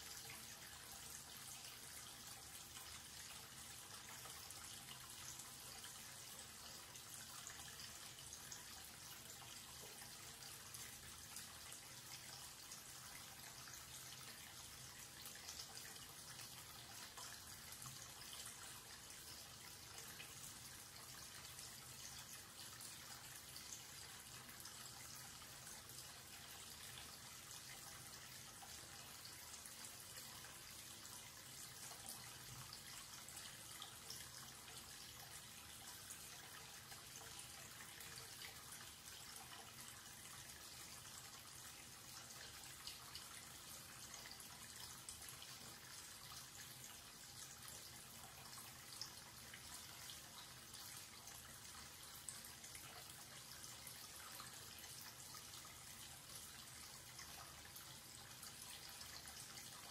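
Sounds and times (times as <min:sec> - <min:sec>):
tap water running into basin: 0:00.0 - 0:59.9.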